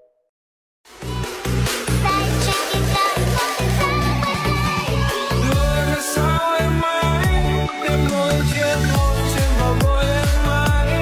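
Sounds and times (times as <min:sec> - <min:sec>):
electronic dance music: 0:00.9 - 0:11.0.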